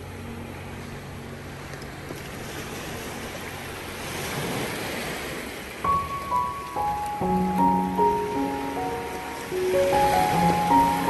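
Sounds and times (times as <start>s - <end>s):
sea waves washing in: 0.0s - 11.0s.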